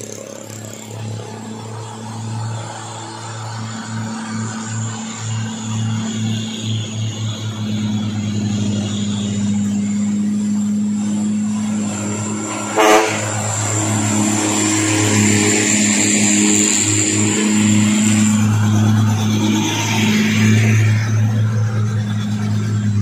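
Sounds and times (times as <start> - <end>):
diesel trucks climbing: 0.0 - 23.0.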